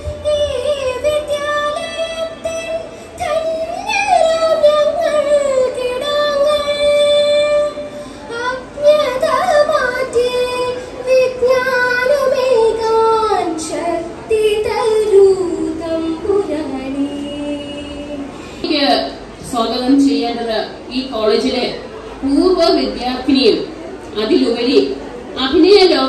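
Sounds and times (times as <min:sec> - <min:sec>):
woman singing into a microphone: 0:00.0 - 0:21.7.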